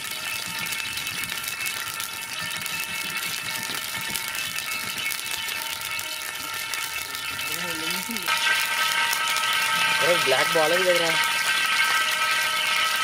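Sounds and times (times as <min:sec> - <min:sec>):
oil crackling and sizzling: 0:00.0 - 0:13.0.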